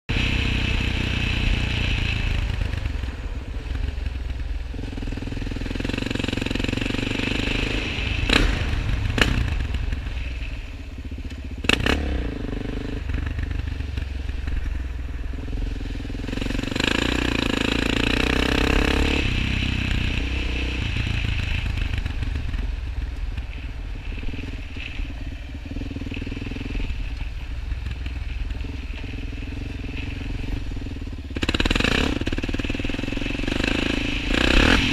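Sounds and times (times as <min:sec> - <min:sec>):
quad bike engine revving: 0:00.1 - 0:10.6, 0:11.2 - 0:14.7, 0:15.3 - 0:22.7, 0:24.0 - 0:27.2, 0:27.8 - 0:34.9.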